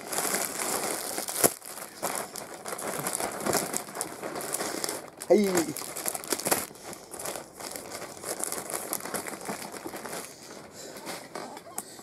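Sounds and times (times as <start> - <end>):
plastic bag rustling and crinkling: 0.0 - 11.7.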